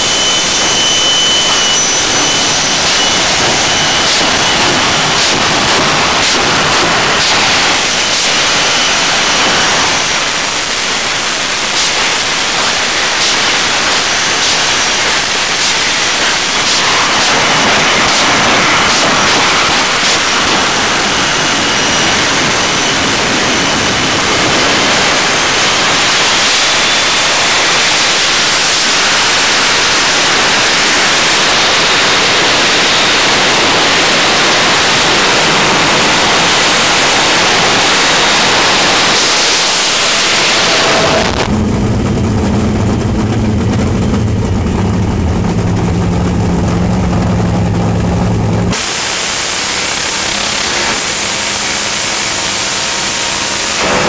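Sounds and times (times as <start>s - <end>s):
lower engine note with hum: 0.0s - 48.8s
jet engine roaring: 0.0s - 54.0s.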